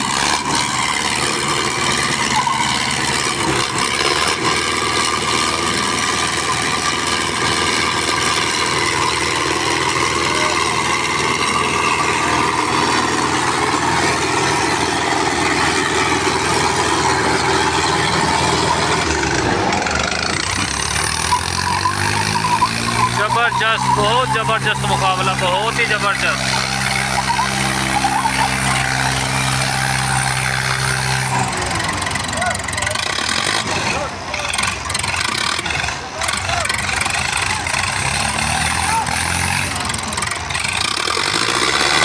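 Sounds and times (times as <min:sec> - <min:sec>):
tractor engines straining: 0:00.0 - 0:42.0.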